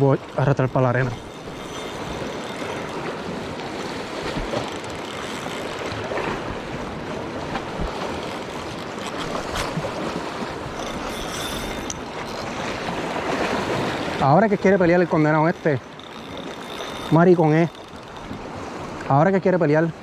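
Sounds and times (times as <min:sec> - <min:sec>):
waves lapping on rocks: 0:00.0 - 0:20.0.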